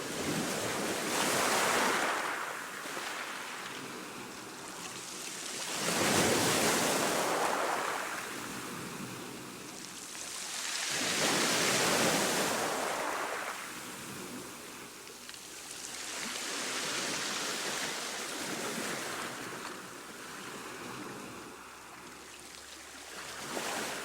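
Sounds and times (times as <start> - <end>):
ocean waves washing on shore: 0.0 - 24.0.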